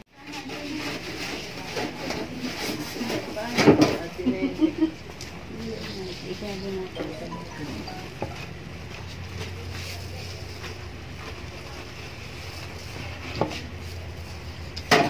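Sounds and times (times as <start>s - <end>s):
low mechanical hum: 0.1s - 15.0s.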